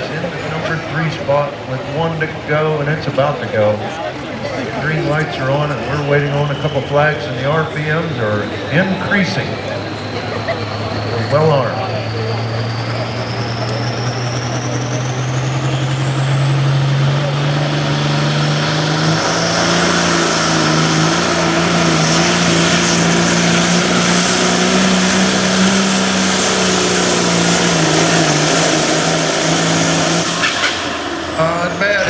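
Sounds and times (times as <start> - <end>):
diesel tractor engine at full throttle: 0.0 - 32.0
high turbo whine: 0.0 - 32.0.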